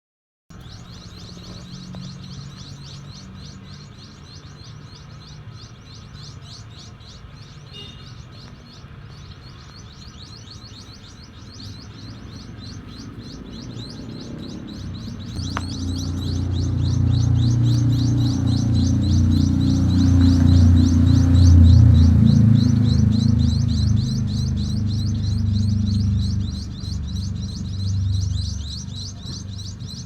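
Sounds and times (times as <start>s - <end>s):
small birds chirping: 0.5s - 30.0s.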